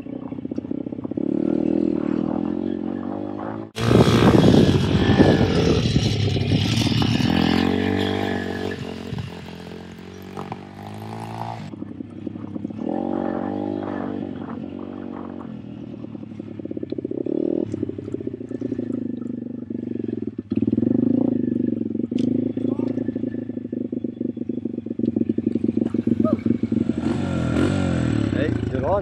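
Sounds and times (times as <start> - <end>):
motorbike engine revving: 0.0 - 29.0.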